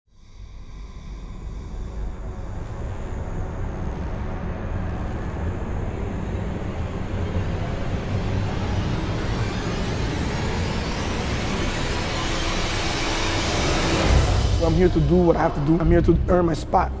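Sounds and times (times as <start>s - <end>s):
deep rumble with rushing hiss: 0.2s - 17.0s.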